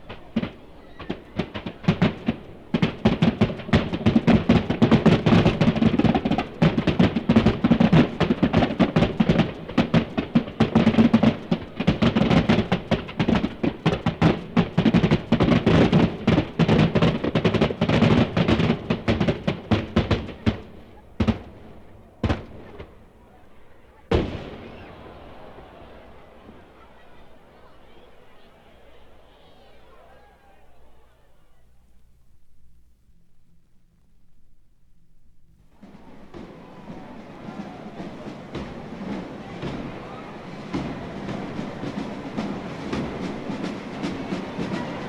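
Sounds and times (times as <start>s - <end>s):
fireworks bangs and crackles: 0.0s - 31.6s, 35.8s - 45.0s
fireworks booms: 0.0s - 32.0s, 35.7s - 45.0s.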